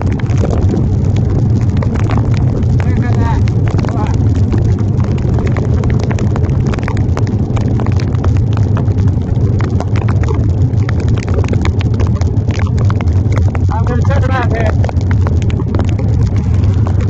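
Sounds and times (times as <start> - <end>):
raindrops tapping on phone: 0.0 - 17.0
wind rumble on microphone: 0.0 - 17.0.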